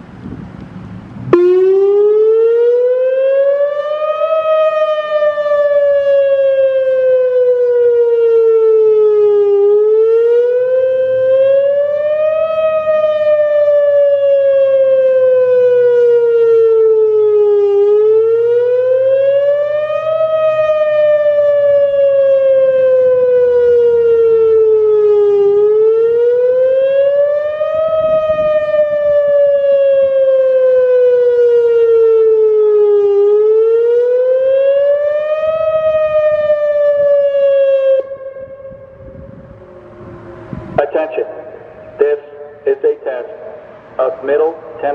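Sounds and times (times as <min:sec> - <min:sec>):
warning siren wailing: 0:01.0 - 0:44.9.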